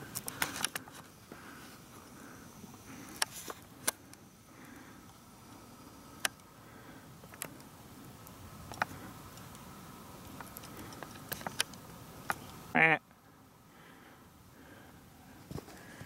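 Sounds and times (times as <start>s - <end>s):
faint outdoor hush: 0.0s - 16.0s.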